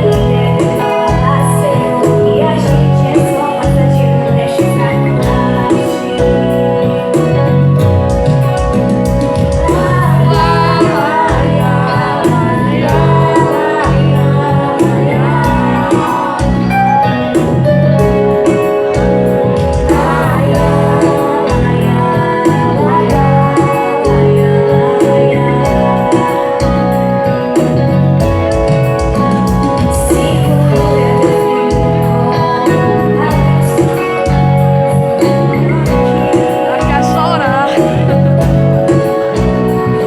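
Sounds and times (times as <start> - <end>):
woman singing: 0.0 - 8.6, 9.2 - 28.3, 29.1 - 40.0
instrumental accompaniment with beat: 0.0 - 40.0.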